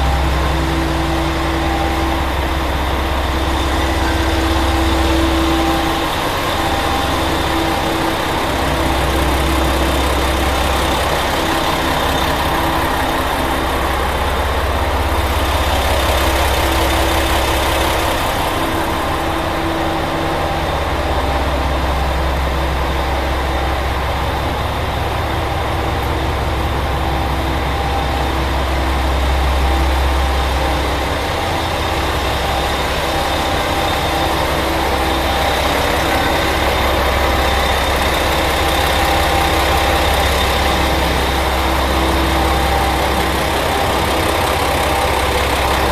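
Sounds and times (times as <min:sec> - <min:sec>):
diesel engines idling: 0:00.0 - 0:45.9.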